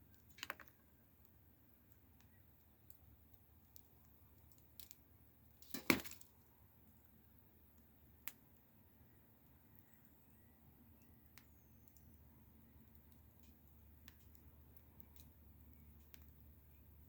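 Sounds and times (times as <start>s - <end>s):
sharp pops and snaps of fire: 0.0s - 17.0s
wood fire crackling: 0.0s - 17.0s.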